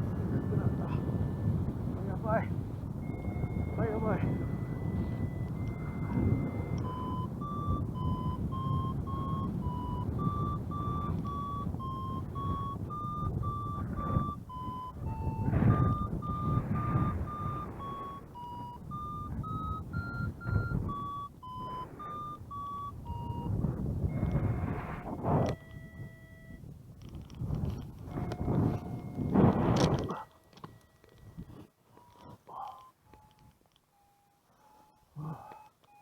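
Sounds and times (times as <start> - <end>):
wind rushing over microphone: 0.0 - 30.3
variometer beeping: 2.8 - 36.0.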